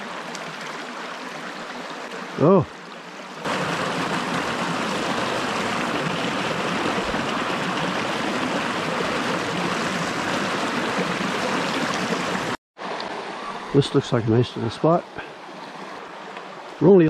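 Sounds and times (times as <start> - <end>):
brook running over rocks: 0.0 - 13.7.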